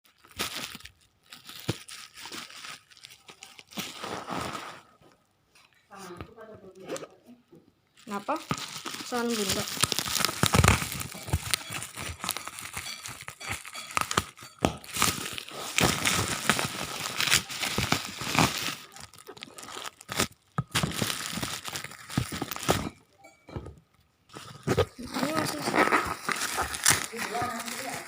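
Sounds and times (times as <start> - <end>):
packaging crumpling and tearing: 0.1 - 5.0, 8.0 - 23.0, 24.3 - 28.0.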